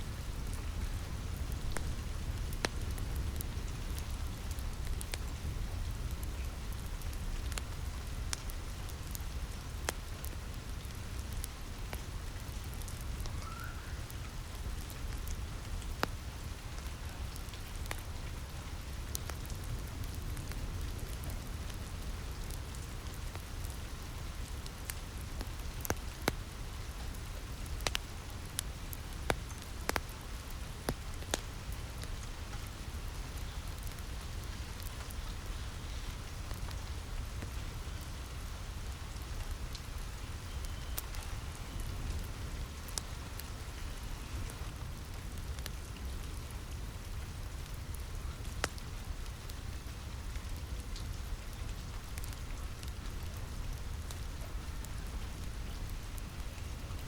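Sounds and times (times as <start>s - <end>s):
rain on a roof: 0.0s - 57.0s
wood fire crackling: 0.0s - 57.0s.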